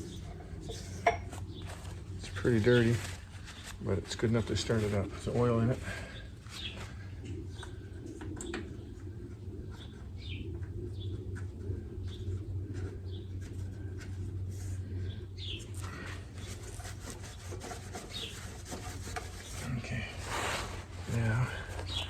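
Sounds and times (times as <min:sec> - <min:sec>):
birds chirping: 0:00.0 - 0:18.6, 0:21.1 - 0:22.0
steady low hum: 0:00.0 - 0:22.0.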